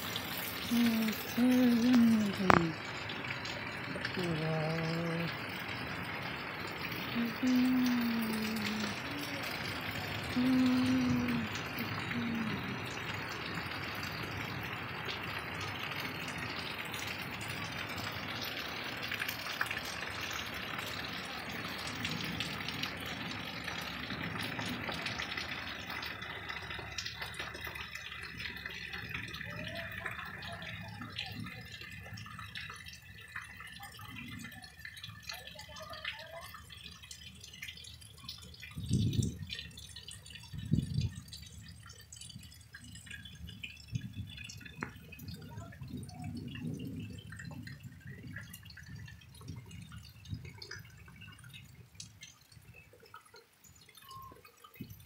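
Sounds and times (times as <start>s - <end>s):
raindrops pattering: 0.0s - 55.0s.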